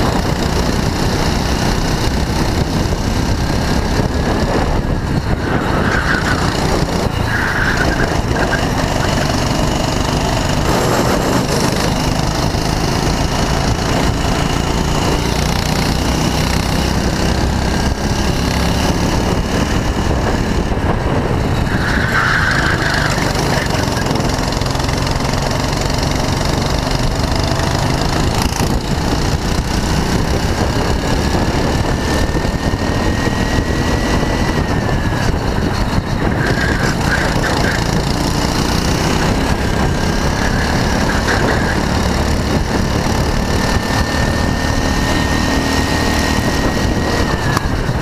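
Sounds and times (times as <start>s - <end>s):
go-kart engine running hard: 0.0s - 48.0s
road noise: 0.0s - 48.0s
wind noise: 0.0s - 48.0s.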